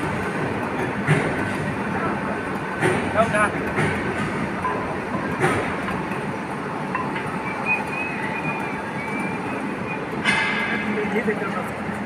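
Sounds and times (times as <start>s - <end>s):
heavy workshop machinery: 0.0s - 12.0s.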